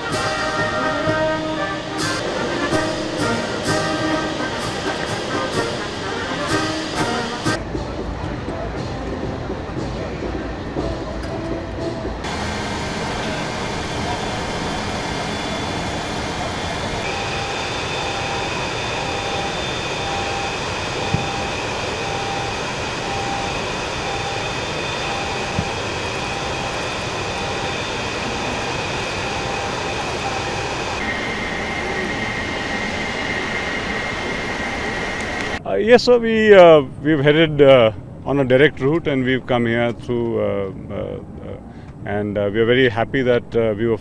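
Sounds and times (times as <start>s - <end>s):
machinery drone with whining: 0.0s - 44.0s.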